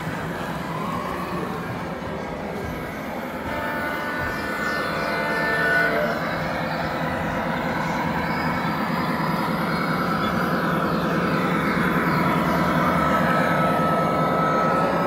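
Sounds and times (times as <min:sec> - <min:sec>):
model trains running: 0:00.0 - 0:15.0.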